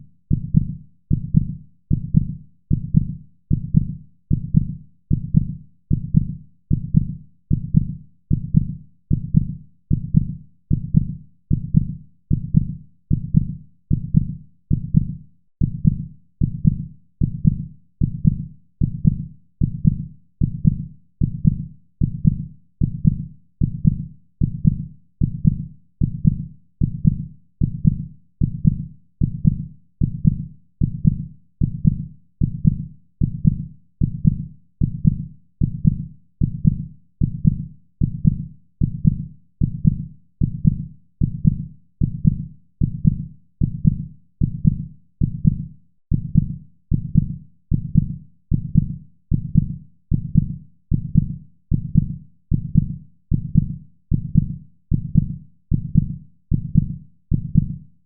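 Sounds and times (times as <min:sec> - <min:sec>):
heartbeat thumps: 0:00.3 - 0:57.8.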